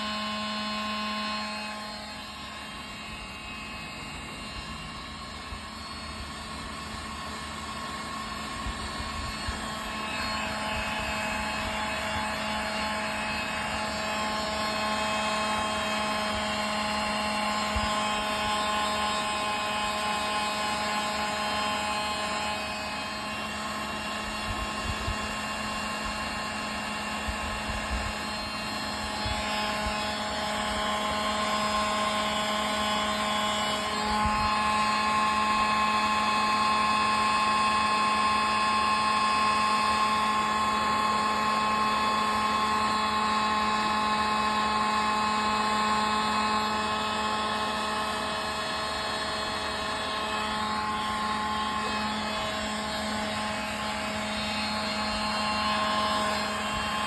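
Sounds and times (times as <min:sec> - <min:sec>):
machine whirring: 0:00.0 - 0:57.0.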